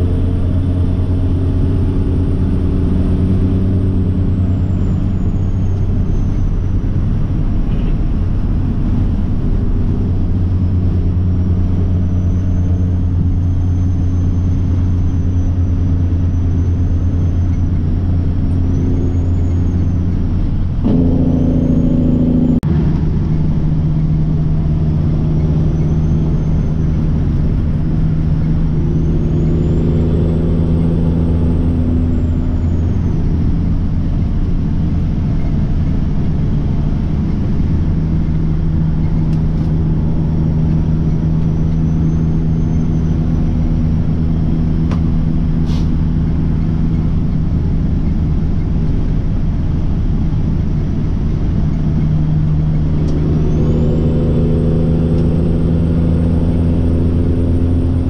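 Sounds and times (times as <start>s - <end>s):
diesel truck engine running: 0.0s - 58.0s
road noise: 0.0s - 58.0s.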